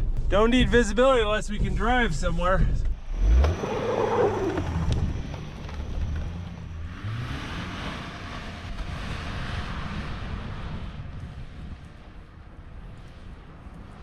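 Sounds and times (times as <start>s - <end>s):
car engine under load: 0.0s - 14.0s.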